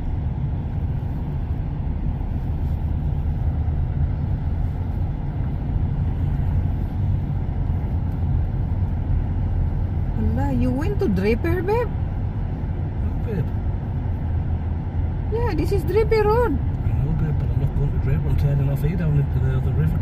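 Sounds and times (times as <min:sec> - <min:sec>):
car engine rumble: 0:00.0 - 0:20.0
tyre road noise: 0:00.0 - 0:20.0.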